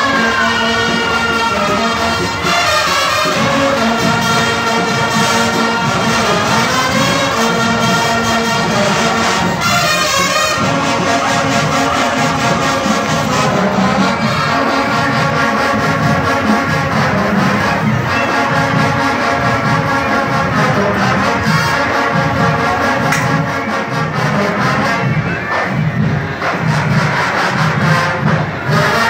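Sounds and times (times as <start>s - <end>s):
brass section holding chords: 0.0s - 29.0s.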